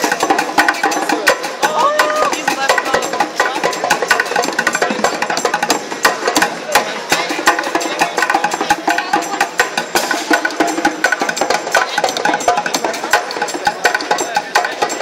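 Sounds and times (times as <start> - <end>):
drumming on plastic buckets: 0.0 - 15.0.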